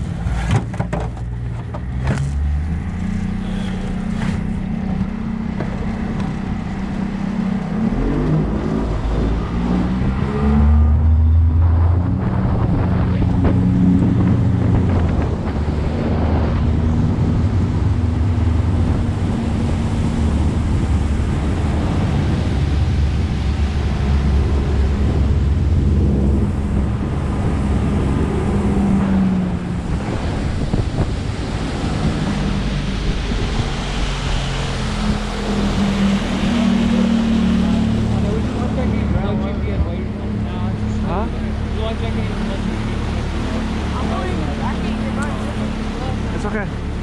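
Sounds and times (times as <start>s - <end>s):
boat motor running: 0.0s - 47.0s
water noise: 0.0s - 47.0s
wind buffeting microphone: 4.4s - 47.0s.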